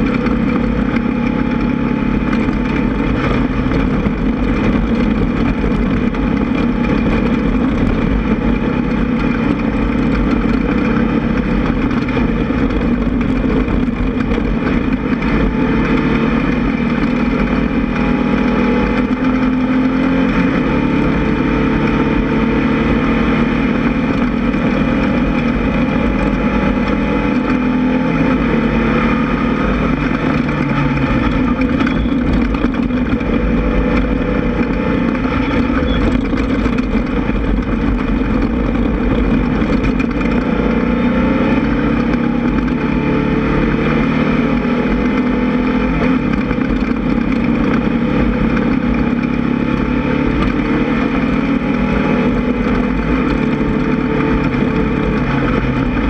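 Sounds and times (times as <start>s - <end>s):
buggy engine running hard: 0.0s - 56.0s.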